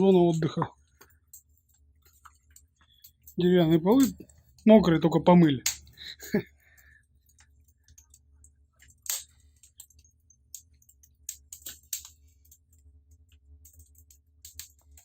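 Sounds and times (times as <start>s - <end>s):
low steady hum: 0.0s - 15.0s
wood fire crackling: 0.0s - 15.0s.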